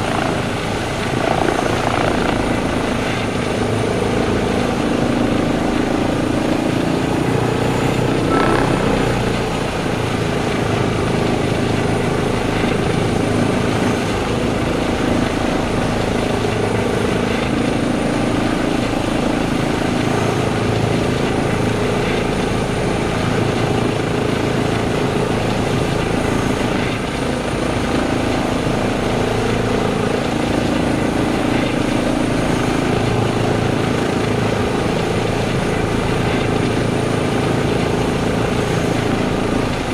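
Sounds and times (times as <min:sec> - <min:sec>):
helicopter rotor and engines: 0:00.0 - 0:39.9
high turbine whine: 0:00.0 - 0:39.9.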